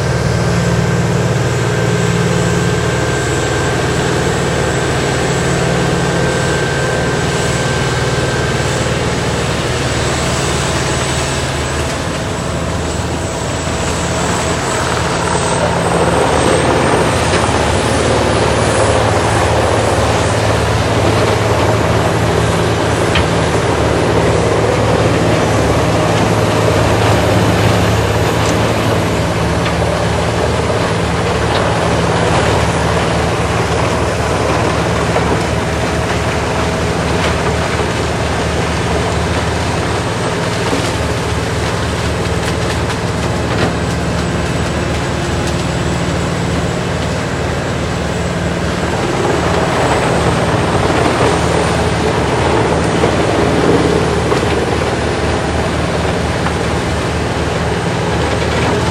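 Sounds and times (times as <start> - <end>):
diesel engine under load: 0.0 - 58.9
machine grinding branches: 0.0 - 58.9.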